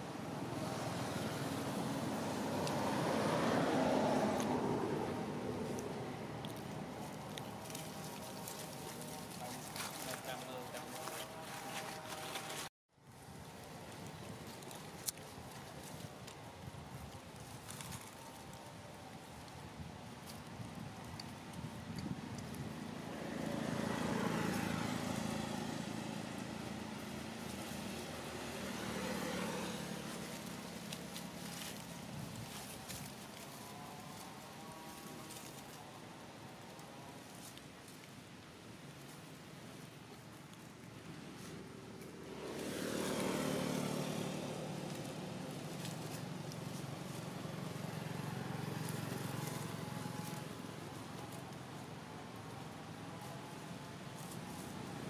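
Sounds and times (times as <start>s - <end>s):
vehicle passing on road: 0.0s - 55.0s.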